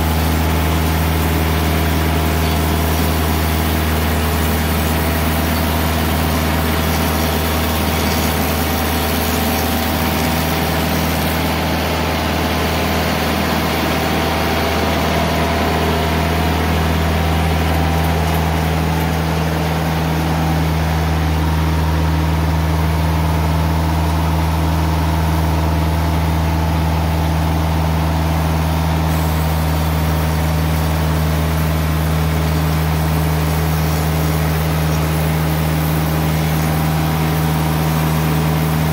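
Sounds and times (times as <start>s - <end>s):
sawmill engine running steadily: 0.0s - 38.9s.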